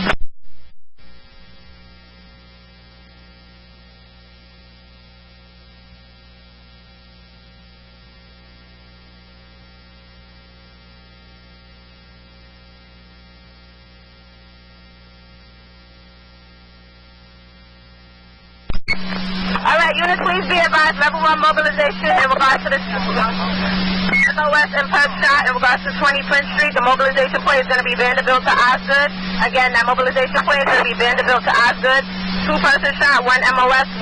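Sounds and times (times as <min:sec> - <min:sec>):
electrical hum on radio feed: 0:00.0 - 0:34.0.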